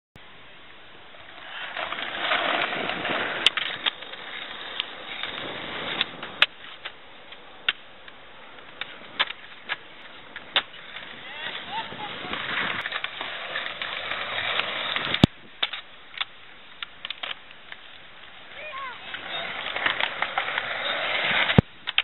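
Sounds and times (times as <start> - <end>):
skateboard wheels rolling on concrete: 0.2 - 22.0
skateboards clacking on concrete: 1.2 - 22.0.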